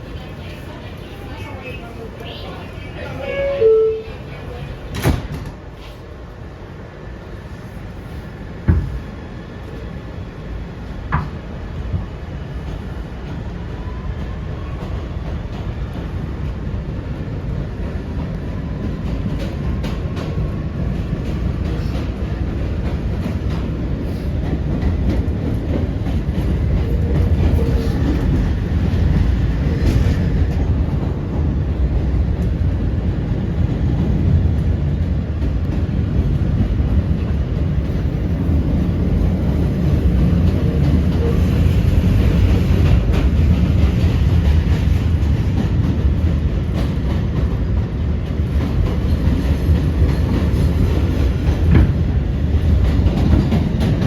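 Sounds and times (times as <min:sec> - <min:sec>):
subway wheels rumbling on track: 0:00.0 - 0:54.0
rail joint clicks: 0:00.5 - 0:05.9, 0:10.8 - 0:54.0.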